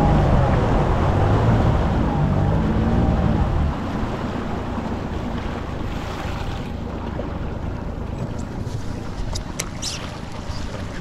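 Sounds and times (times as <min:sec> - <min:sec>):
outboard motor running slowly: 0:00.0 - 0:11.0
water noise: 0:00.0 - 0:11.0.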